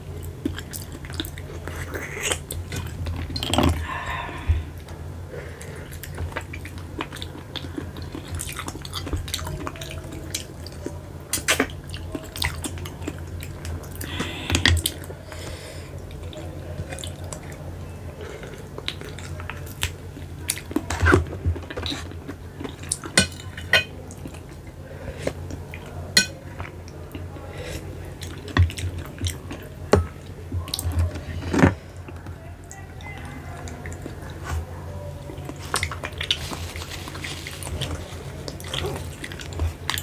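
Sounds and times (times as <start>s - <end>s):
sucking and chewing: 0.0s - 40.0s.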